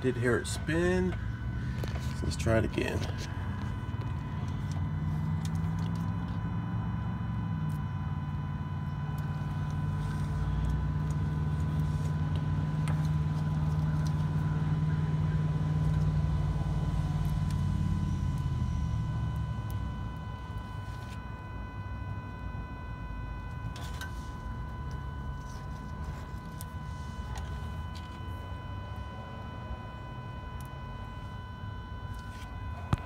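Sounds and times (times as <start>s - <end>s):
electric pump motor humming: 0.0s - 33.0s.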